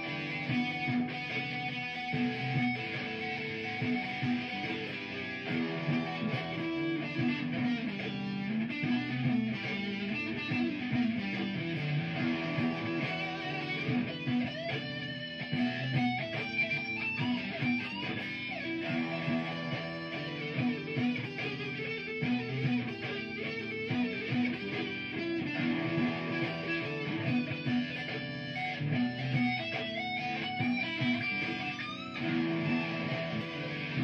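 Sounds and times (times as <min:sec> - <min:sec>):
electric guitar lead: 0:00.0 - 0:34.0
looped low guitar part: 0:00.0 - 0:34.0.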